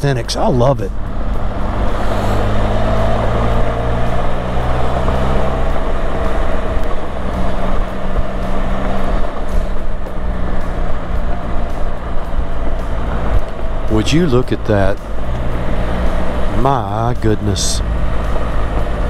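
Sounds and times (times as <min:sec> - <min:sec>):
motorcycle engine cruising: 0:00.0 - 0:19.0
road noise: 0:00.0 - 0:19.0.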